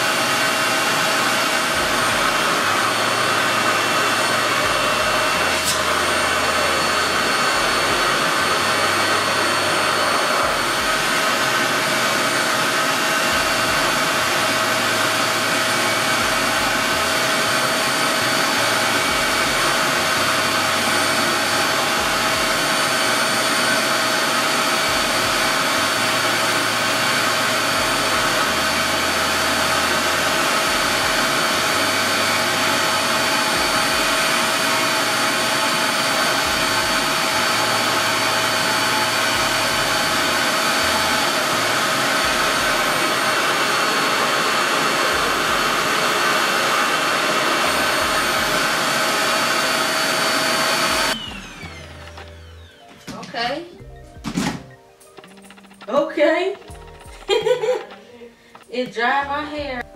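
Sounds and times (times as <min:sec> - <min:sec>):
motor whine: 0:00.0 - 0:52.9.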